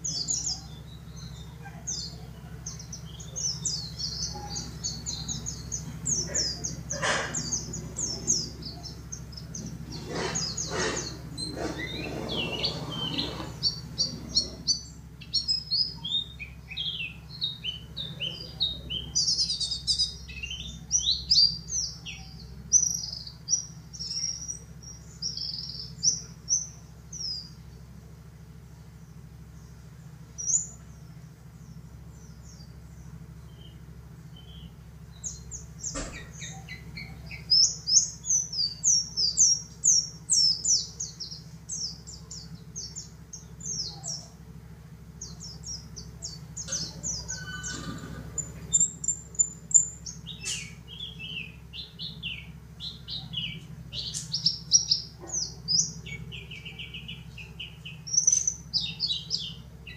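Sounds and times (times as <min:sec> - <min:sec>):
bird chirping: 0:00.0 - 0:59.9
low steady hum: 0:00.0 - 0:59.9.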